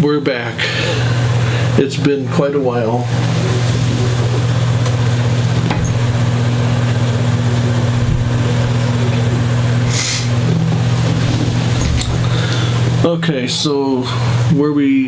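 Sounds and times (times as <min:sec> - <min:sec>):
loud low electrical hum: 0:00.0 - 0:15.0.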